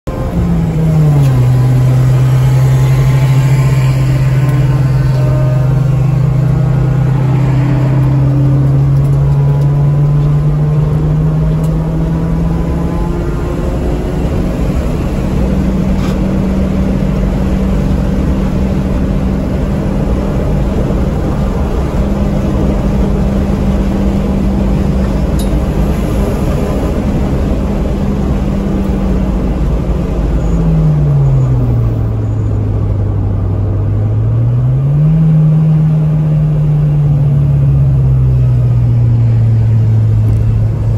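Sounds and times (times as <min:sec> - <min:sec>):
road and wind noise: 0:00.0 - 0:40.9
car engine accelerating: 0:00.1 - 0:40.9.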